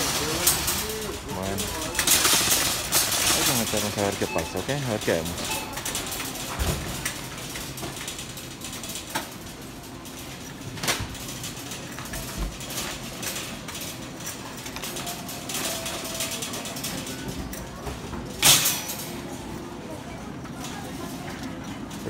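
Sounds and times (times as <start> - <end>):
cart clunks: 0.0 - 19.5
shopping cart rattling: 0.0 - 22.0.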